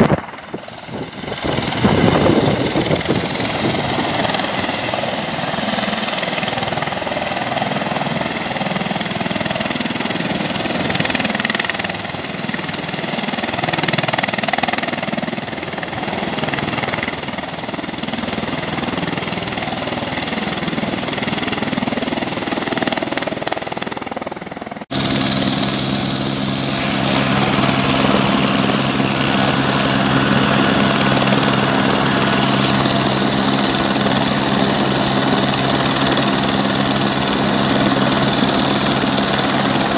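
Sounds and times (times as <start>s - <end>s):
helicopter engine and rotors: 0.0s - 39.9s
helicopter flying low overhead: 0.0s - 39.9s.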